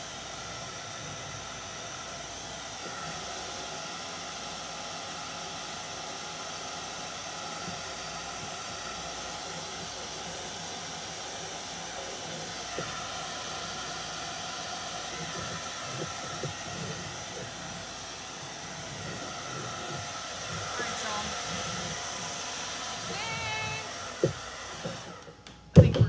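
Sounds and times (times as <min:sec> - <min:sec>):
hair dryer blowing: 0:00.0 - 0:26.0.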